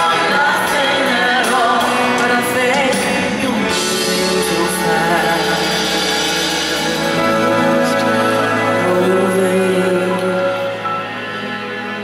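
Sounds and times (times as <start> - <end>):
woman singing into microphone: 0.0 - 10.9
instrumental accompaniment: 0.0 - 12.0.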